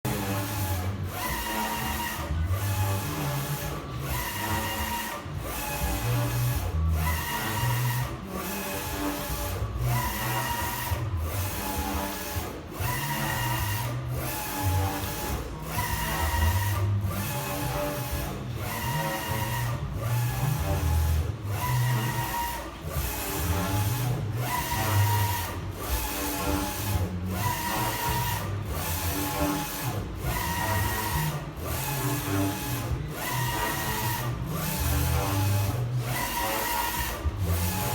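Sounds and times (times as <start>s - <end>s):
printer carriage motor whining: 0.1s - 37.9s.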